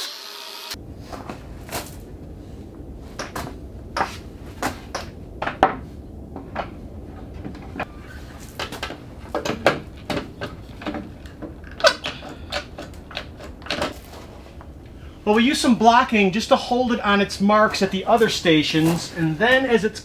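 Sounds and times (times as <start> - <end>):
low background noise: 0.8 - 20.0.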